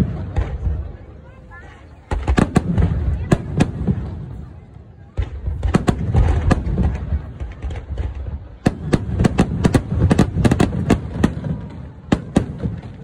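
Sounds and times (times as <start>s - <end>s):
fireworks booming rumble: 0.0s - 13.0s
fireworks cracking bangs: 0.0s - 13.0s.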